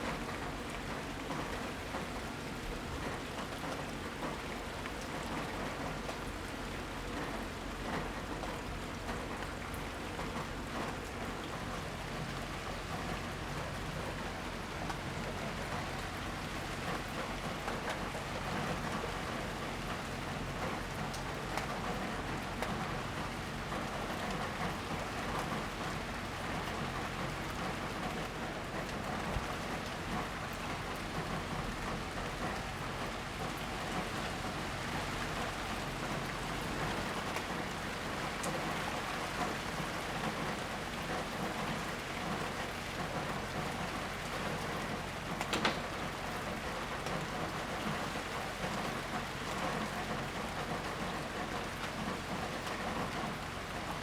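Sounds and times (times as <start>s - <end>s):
rain drops pattering: 0.0s - 54.0s.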